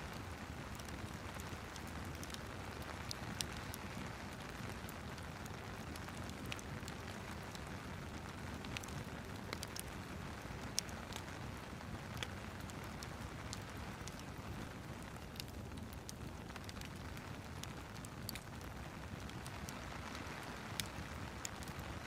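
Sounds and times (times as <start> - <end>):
steady rain: 0.0 - 22.0
wood fire crackling: 0.0 - 22.0.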